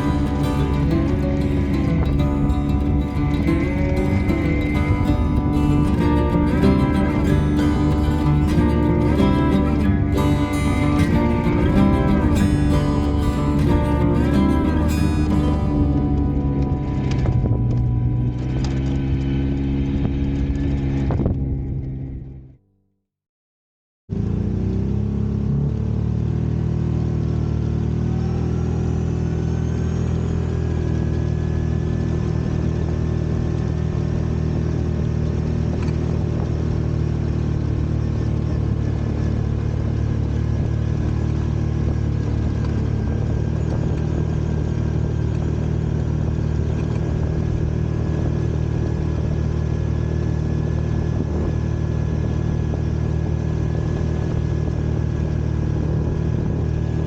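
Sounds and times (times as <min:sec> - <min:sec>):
engine whine: 0:00.0 - 0:22.6, 0:24.1 - 0:57.0
vehicle engine running: 0:00.0 - 0:22.6, 0:24.1 - 0:57.0.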